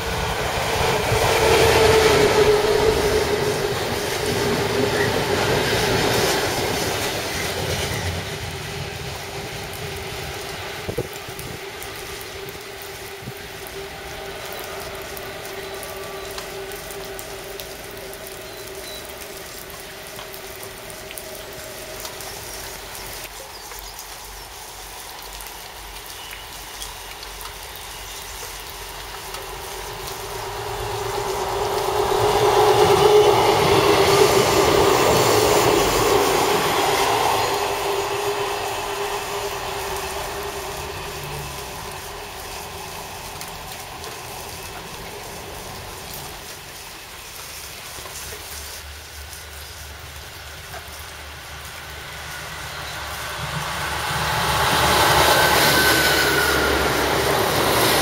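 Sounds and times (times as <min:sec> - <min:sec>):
diesel locomotive engine: 0:00.0 - 0:58.0
diesel train approaching: 0:00.0 - 0:58.0.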